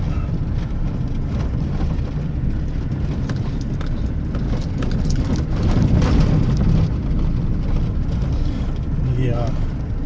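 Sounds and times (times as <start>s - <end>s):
vehicle driving rumble: 0.0s - 10.0s.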